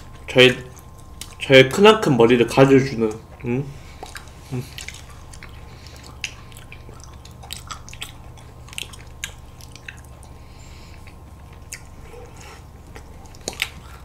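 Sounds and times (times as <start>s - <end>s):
biting and chewing ice cream: 0.0s - 1.8s, 3.0s - 14.0s
steady low hum: 0.0s - 14.0s.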